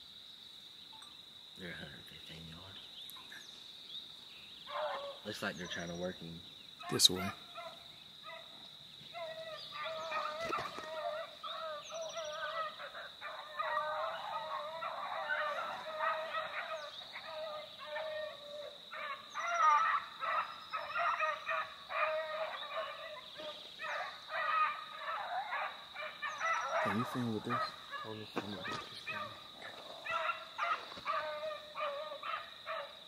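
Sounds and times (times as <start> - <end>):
hounds baying: 4.6 - 6.1, 6.8 - 33.0.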